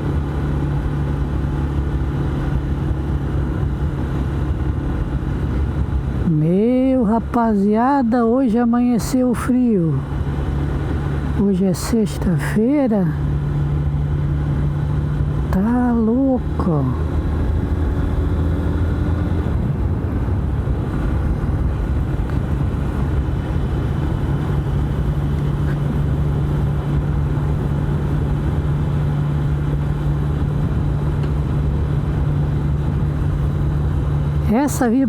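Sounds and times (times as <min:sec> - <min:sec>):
motorcycle engine droning: 0:00.0 - 0:35.0.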